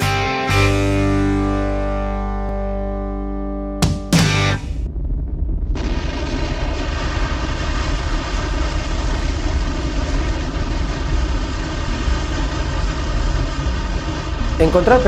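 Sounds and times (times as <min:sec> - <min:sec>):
deep rumble: 0:00.8 - 0:15.0.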